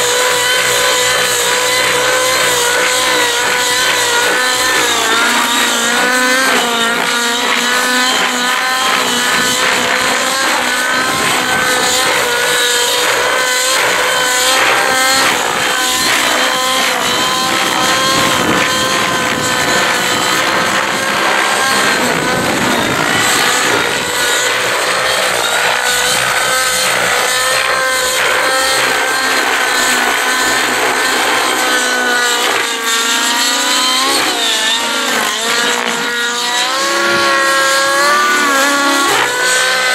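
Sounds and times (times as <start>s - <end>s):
model helicopter engine revving: 0.0s - 39.9s
rotor blade noise: 0.0s - 39.9s.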